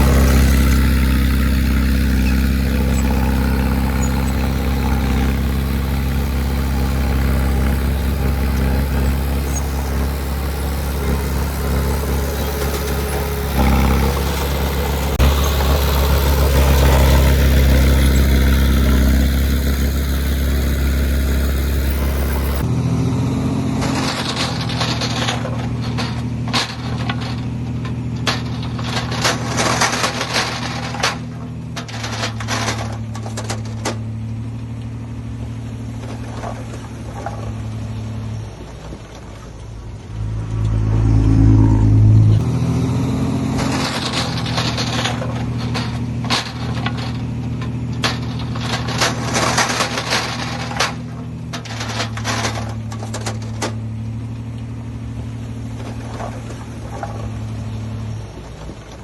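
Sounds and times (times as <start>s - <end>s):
clanks of metal and dirt: 0.0s - 22.7s, 23.7s - 40.8s, 43.3s - 59.0s
diesel engine running: 0.0s - 59.0s.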